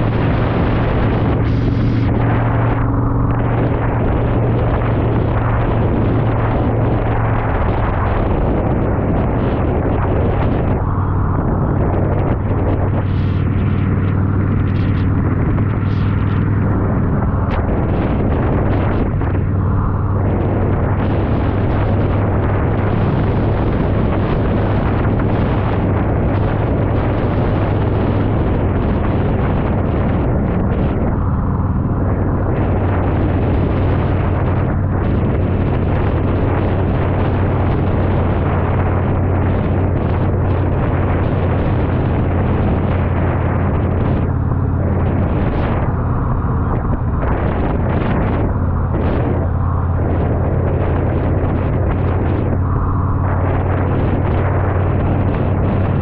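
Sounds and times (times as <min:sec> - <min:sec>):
motorcycle engine droning: 0:00.0 - 0:56.0
wind and road noise: 0:00.0 - 0:56.0.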